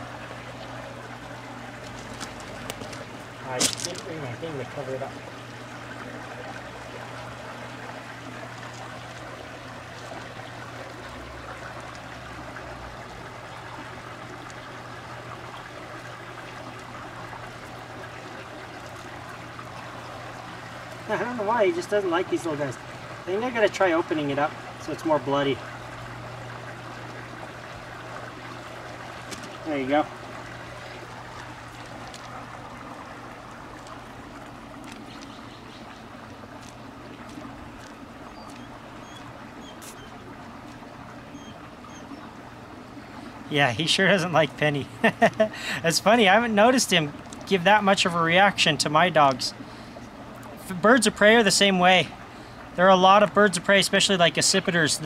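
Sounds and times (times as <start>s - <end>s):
low steady hum: 0.0s - 55.0s
trickle of running water: 0.0s - 55.0s.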